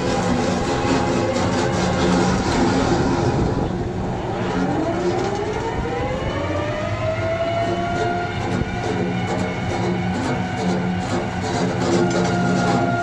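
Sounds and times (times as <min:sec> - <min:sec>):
heavy machine drone: 0:00.0 - 0:13.0
machine whine rising in pitch: 0:00.0 - 0:13.0.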